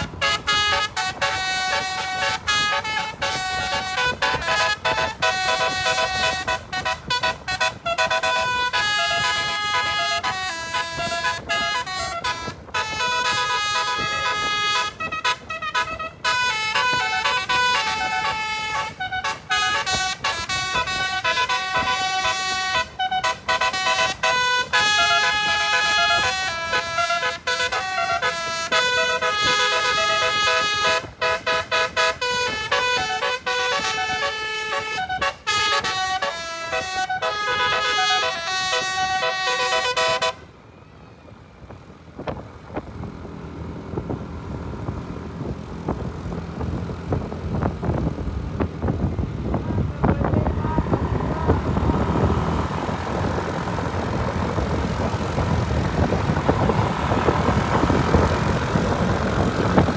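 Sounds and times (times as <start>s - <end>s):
multi-tone air horn melody: 0.0s - 40.6s, 43.5s - 59.9s
engine and traffic noise: 0.0s - 59.9s.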